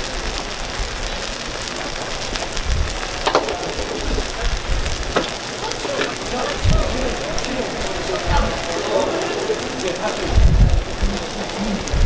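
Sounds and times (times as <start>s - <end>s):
batter sizzling on a hot griddle: 0.0s - 12.0s.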